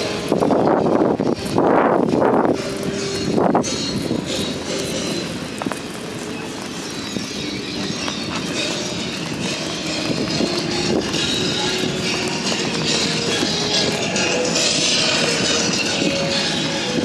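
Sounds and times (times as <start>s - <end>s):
distant crowd: 0.0s - 17.0s
wind: 0.0s - 17.0s.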